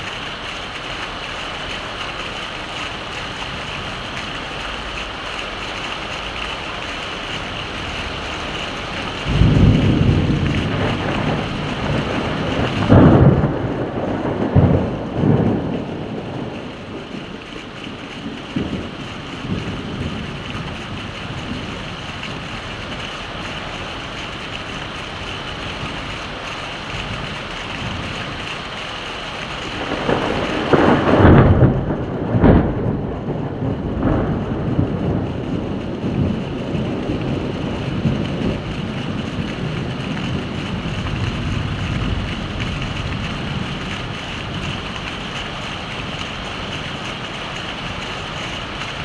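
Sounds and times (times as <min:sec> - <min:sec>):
heavy rain: 0:00.0 - 0:49.0
thunder rumbling: 0:01.9 - 0:49.0.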